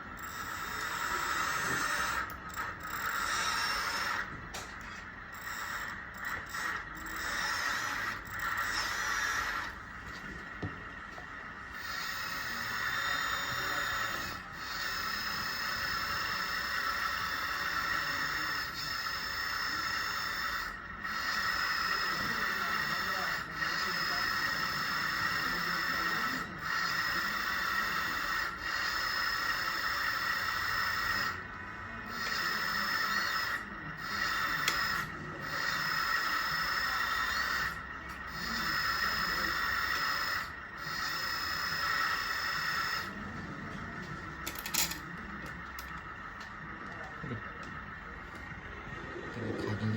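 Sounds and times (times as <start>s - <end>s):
electric hydraulic pump whining: 0.0s - 49.9s.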